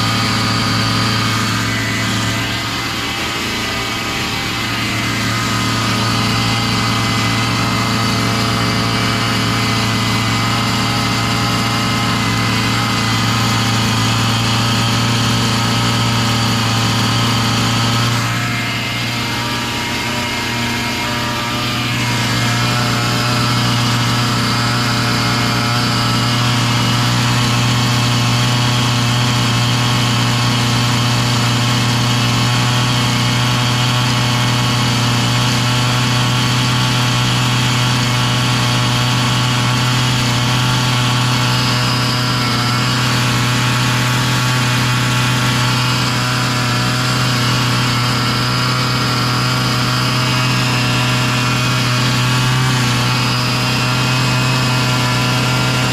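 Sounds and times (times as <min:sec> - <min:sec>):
chainsaw engine idling fast: 0:00.0 - 0:55.9.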